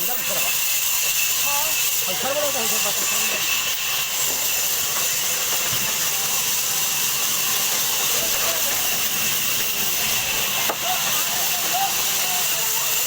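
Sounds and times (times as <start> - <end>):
saw cutting through log: 0.0 - 13.0.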